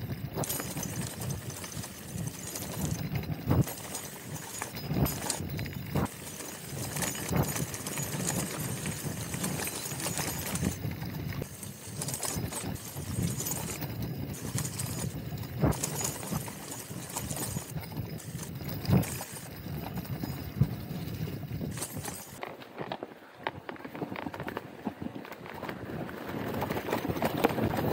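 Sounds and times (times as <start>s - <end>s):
bike rattling on dirt trail: 0.0s - 27.9s.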